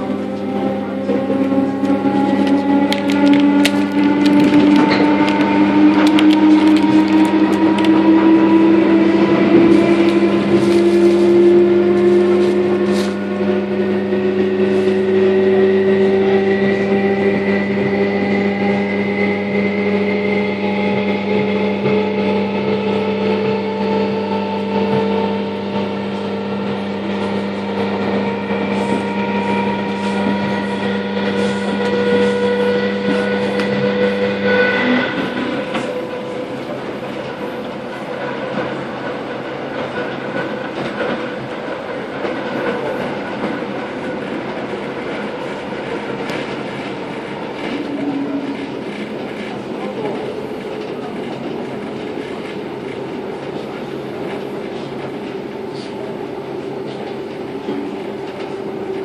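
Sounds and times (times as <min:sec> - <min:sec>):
train motors whining: 0:00.0 - 0:59.0.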